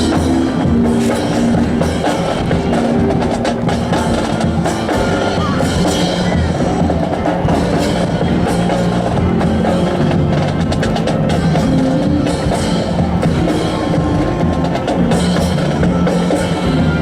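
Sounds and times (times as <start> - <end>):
music with percussion: 0.0 - 17.0.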